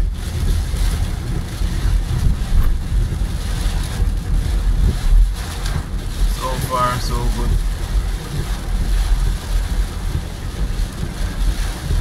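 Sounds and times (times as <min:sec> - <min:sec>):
rain washing over car: 0:00.0 - 0:12.0
tyres rumbling on flooded road: 0:00.0 - 0:12.0.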